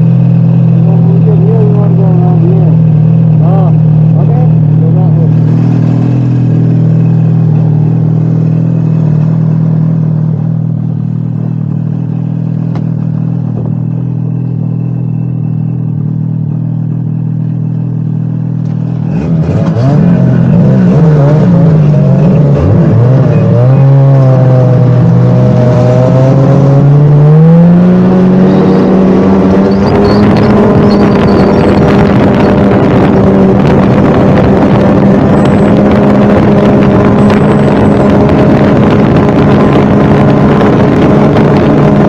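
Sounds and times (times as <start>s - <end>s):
snowmobile engine running: 0.0s - 15.6s, 19.0s - 42.0s.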